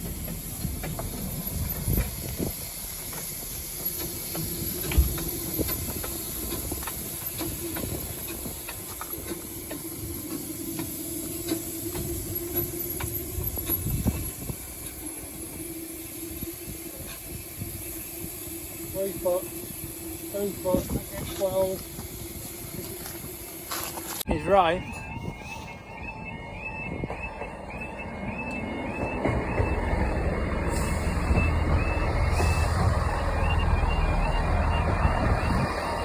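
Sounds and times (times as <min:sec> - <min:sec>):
steam locomotive hiss: 0:00.0 - 0:24.3, 0:29.1 - 0:36.0.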